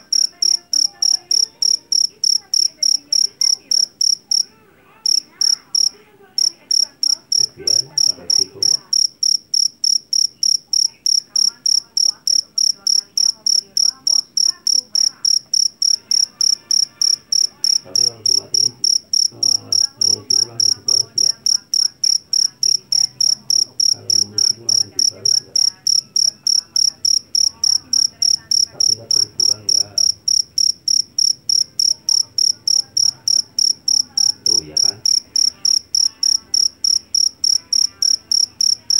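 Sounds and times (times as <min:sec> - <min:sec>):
cricket chirping shrilly: 0:00.0 - 0:38.9.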